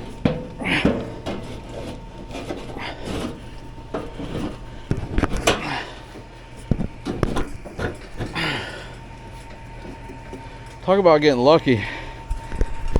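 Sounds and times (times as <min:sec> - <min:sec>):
motor scraping in metal housing: 0:00.0 - 0:12.9.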